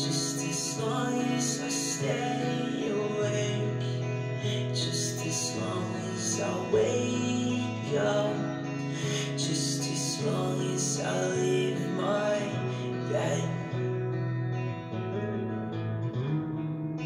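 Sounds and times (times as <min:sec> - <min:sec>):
strummed guitar music over speakers: 0:00.0 - 0:17.0.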